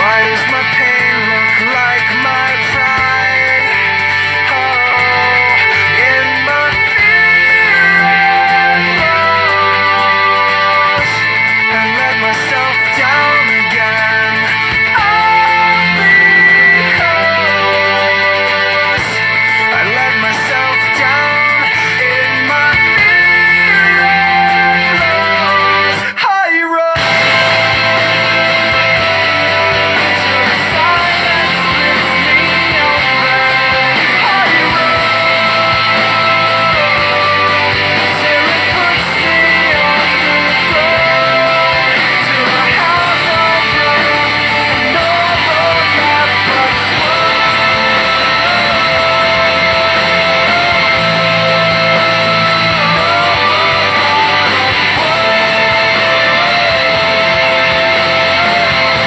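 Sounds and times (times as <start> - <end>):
instrumental rock music: 0.0 - 59.0.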